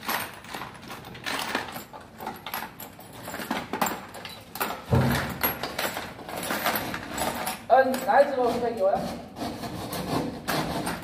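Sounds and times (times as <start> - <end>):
tools and parts clinking: 0.0 - 8.9.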